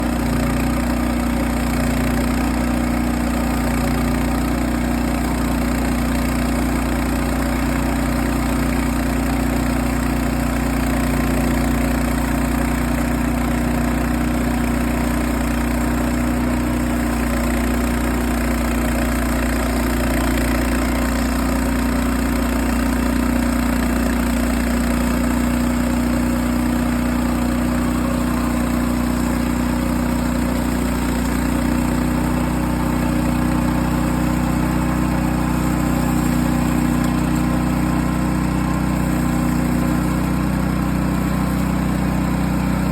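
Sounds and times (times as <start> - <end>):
engine idling with even hum: 0.0 - 42.9.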